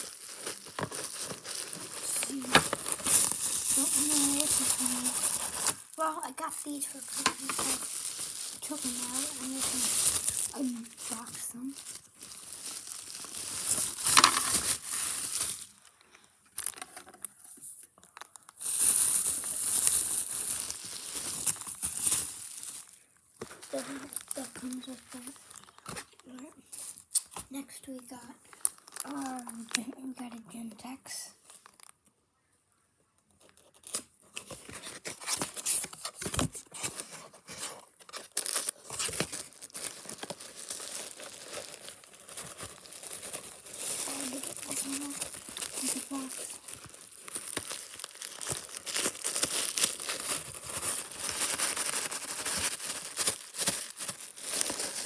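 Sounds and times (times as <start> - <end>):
packaging crinkling and rustling: 0.0 - 30.2, 31.4 - 32.0, 33.3 - 55.0.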